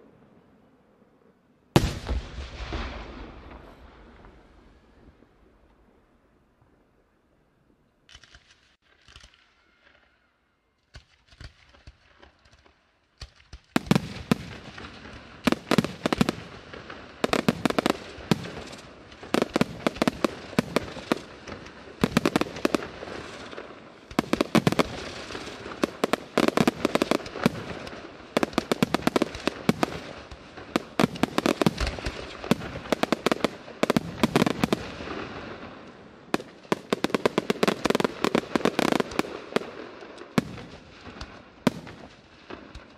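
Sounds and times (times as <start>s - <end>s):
fireworks launching and bursting: 1.8s - 5.6s, 10.9s - 42.9s.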